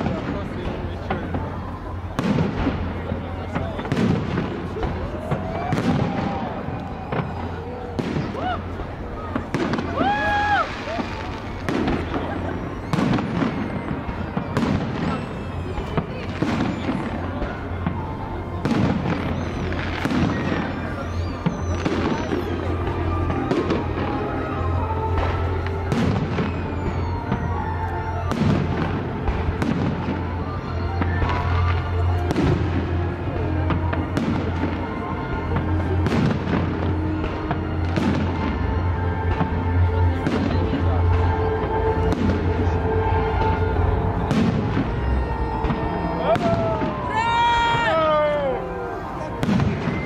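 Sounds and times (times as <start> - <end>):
background noise: 0.0 - 50.0
fireworks bangs: 0.0 - 50.0
music playing: 0.0 - 50.0.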